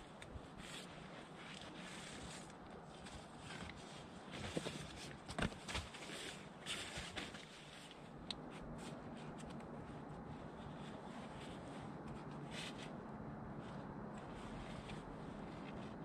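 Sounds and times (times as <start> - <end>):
faint rustling and scuffing: 0.0 - 16.0.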